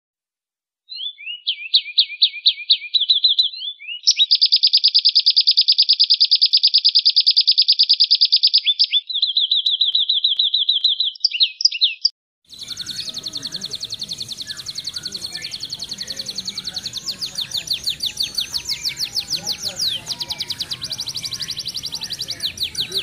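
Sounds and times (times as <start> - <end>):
canary singing trills: 0.9 - 23.0.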